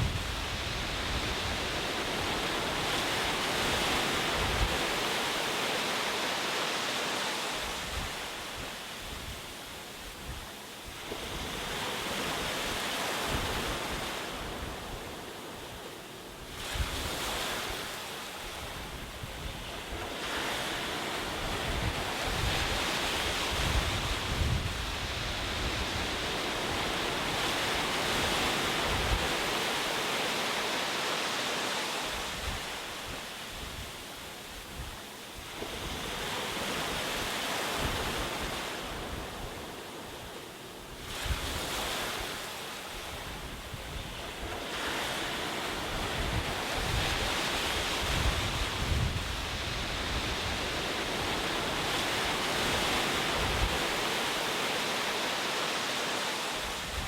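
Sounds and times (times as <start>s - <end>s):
wind rumble on microphone: 0.0s - 5.3s, 7.6s - 15.6s, 16.4s - 29.8s, 32.1s - 39.8s, 40.9s - 54.4s, 56.6s - 57.0s
ocean waves breaking on shore: 0.0s - 57.0s.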